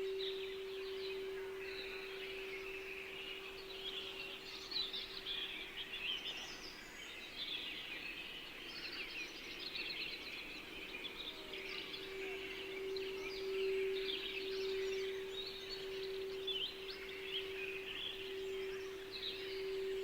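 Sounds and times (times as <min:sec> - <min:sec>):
held meditation tone: 0:00.0 - 0:20.0
small birds chirping: 0:00.0 - 0:20.0.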